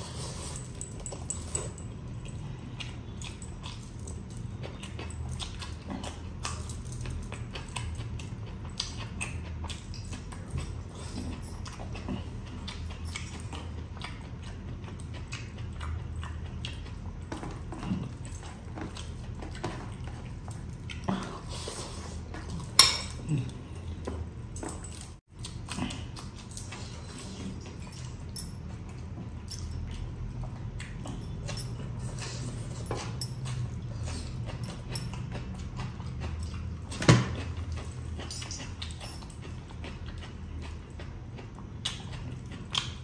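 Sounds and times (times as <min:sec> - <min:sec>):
steady low hum: 0:00.0 - 0:43.0
chewing and lip smacks: 0:00.3 - 0:24.5, 0:25.4 - 0:43.0.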